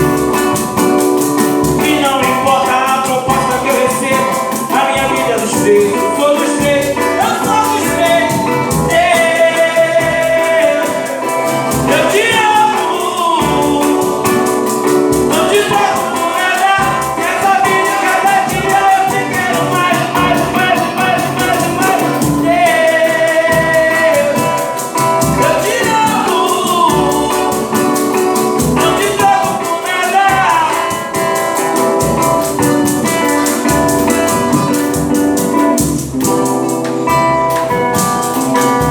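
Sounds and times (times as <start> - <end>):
gospel group singing: 0.0 - 36.6
band accompaniment: 0.0 - 38.9.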